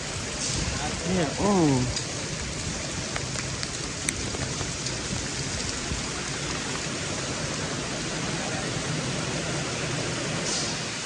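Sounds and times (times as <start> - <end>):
freezing rain falling: 0.0 - 11.0.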